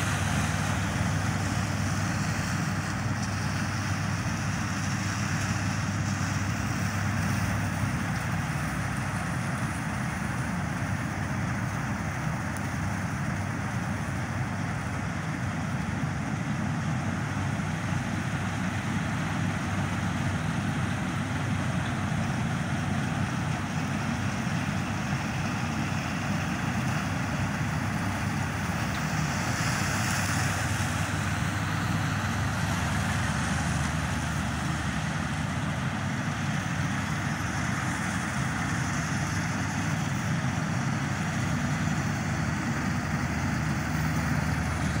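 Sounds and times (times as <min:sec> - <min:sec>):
combine harvester running: 0:00.0 - 0:45.0.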